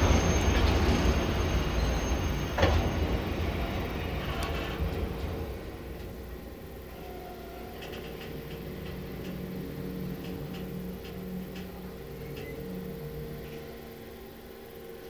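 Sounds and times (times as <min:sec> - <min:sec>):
diesel locomotive hum: 0:00.0 - 0:15.0
wheels ticking on rails: 0:00.0 - 0:15.0.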